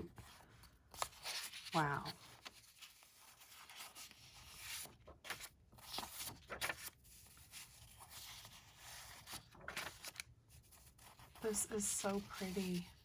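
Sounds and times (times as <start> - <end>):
paper sheets rustling: 0.0 - 13.0.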